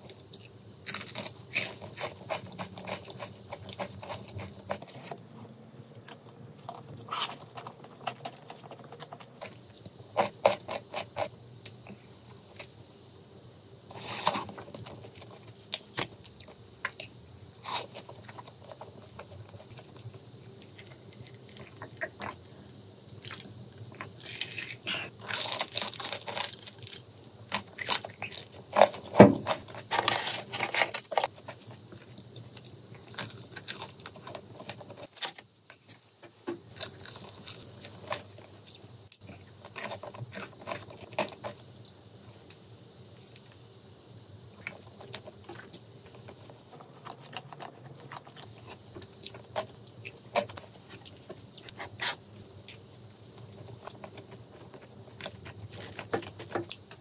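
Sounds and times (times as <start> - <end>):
crunching fried chicken: 0.0 - 12.7, 13.9 - 43.7, 44.3 - 57.0.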